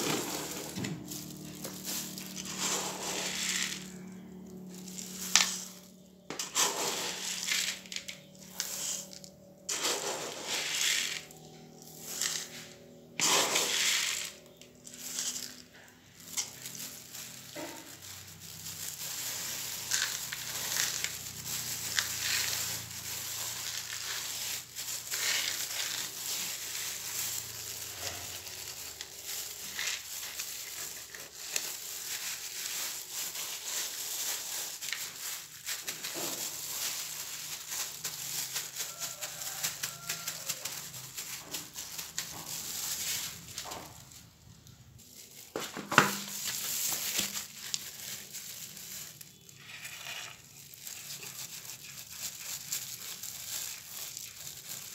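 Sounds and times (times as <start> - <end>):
dry granules pouring: 0.0 - 54.9
granules crunching under a hand: 0.0 - 54.9
plastic glove rustling: 0.0 - 54.9.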